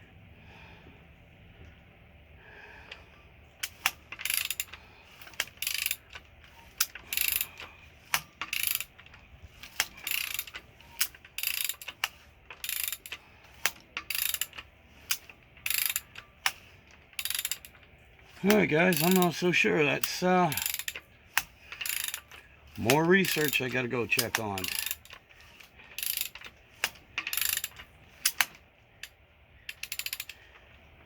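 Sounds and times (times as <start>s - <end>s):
ratchet wrench clicking: 3.6s - 30.8s.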